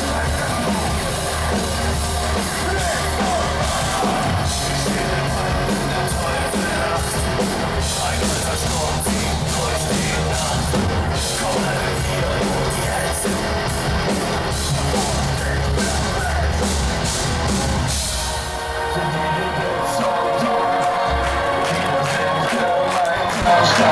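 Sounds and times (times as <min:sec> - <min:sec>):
bass: 0:00.0 - 0:23.9
distorted guitars: 0:00.0 - 0:23.9
heavy drums: 0:00.0 - 0:23.9.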